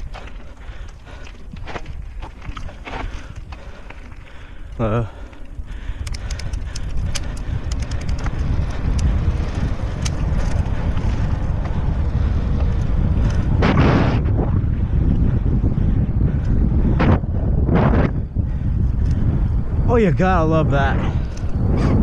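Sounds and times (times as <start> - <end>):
bike clicks and rattles: 0.0 - 22.0
wind noise on microphone: 0.0 - 22.0.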